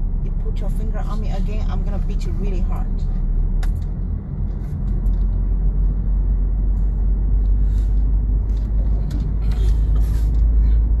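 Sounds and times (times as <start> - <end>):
car rumbling from inside cabin: 0.0 - 11.0.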